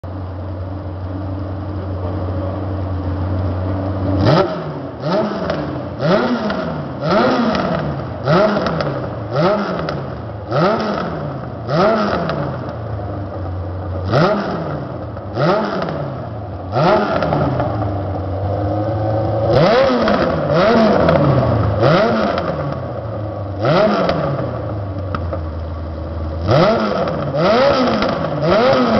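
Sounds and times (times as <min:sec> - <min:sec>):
motorcycle engine revving: 0:03.7 - 0:25.4, 0:26.2 - 0:28.9.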